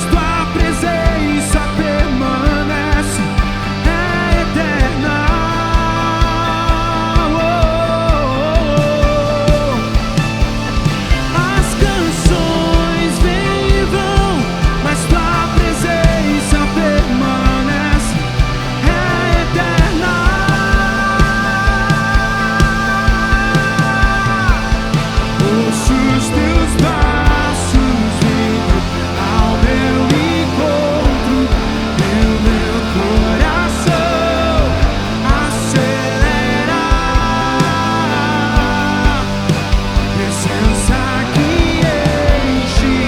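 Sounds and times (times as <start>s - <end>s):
band playing instrumental: 0.0s - 43.0s
drum kit kick beat: 0.0s - 43.0s
sliding lead melody: 0.0s - 43.0s.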